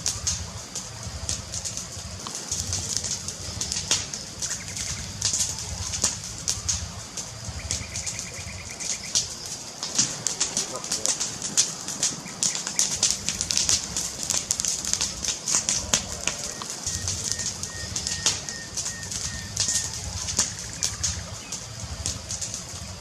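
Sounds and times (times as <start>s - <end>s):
low rumble: 0.0s - 23.0s
wood fire crackling: 0.0s - 23.0s.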